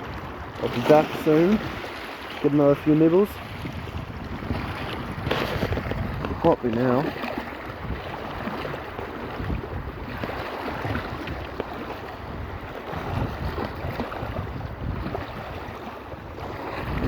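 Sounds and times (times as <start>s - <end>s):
waves washing on shore: 0.0s - 17.0s
wind gusting on microphone: 0.0s - 17.0s.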